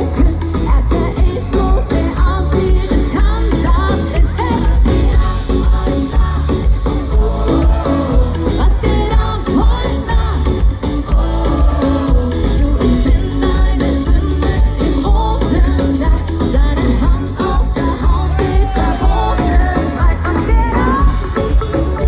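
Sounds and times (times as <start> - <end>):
heavy bass beat: 0.0 - 22.0
pop band music over pa: 0.0 - 22.0
woman singing: 0.0 - 22.0.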